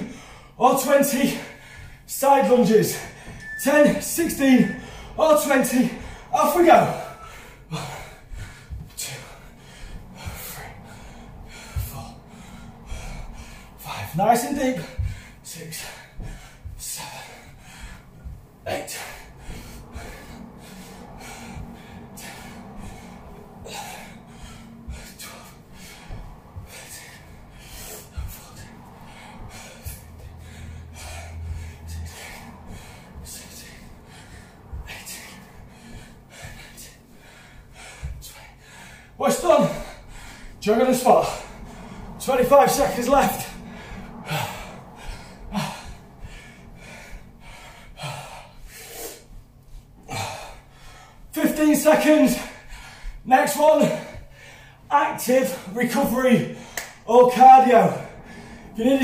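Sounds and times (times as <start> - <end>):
man breathing hard: 0.0 - 59.0.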